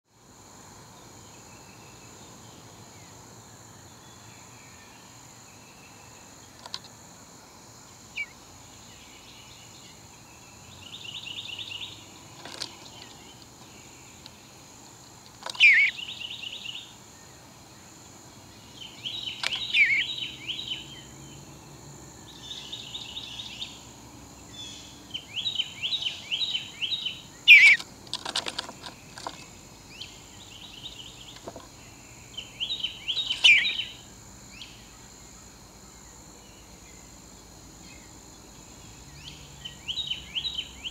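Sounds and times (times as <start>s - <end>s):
high background hiss: 0.0s - 40.9s
songbirds chattering: 1.0s - 7.2s, 7.8s - 40.9s.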